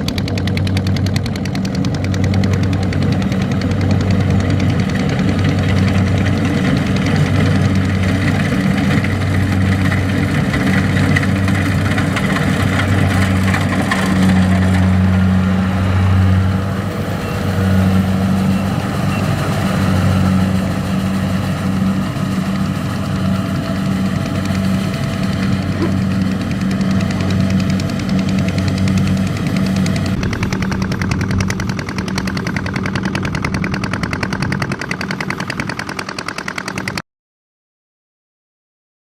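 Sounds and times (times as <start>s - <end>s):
harvesting machine engine humming: 0.0s - 37.0s.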